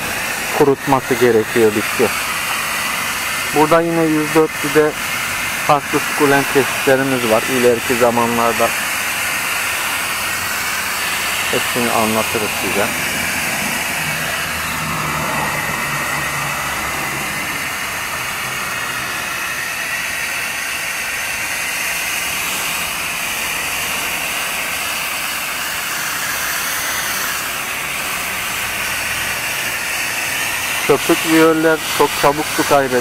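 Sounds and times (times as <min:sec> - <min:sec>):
hose nozzle spray hiss: 0:00.0 - 0:33.0.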